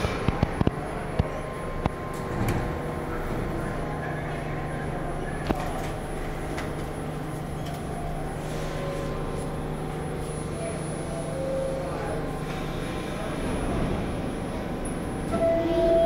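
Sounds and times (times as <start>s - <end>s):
subway train humming: 0.0s - 16.0s.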